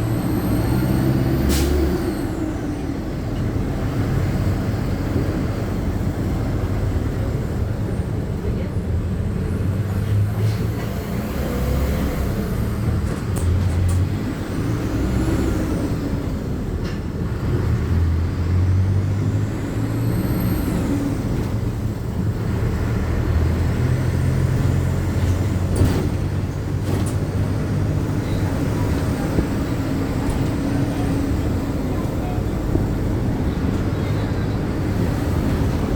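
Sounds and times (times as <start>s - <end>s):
bus engine rumbling: 0.0s - 35.9s.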